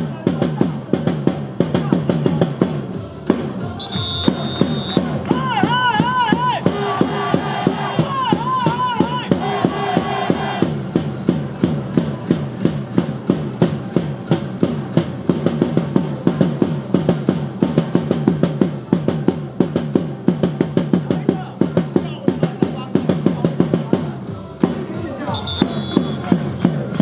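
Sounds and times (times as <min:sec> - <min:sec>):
fast steady drumbeat: 0:00.0 - 0:27.0.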